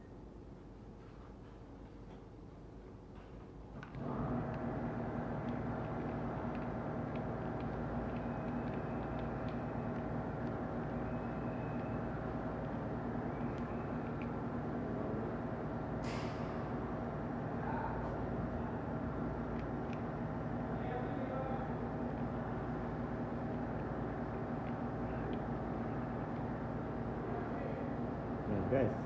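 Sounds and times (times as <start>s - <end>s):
machine droning hum: 0.0s - 29.0s.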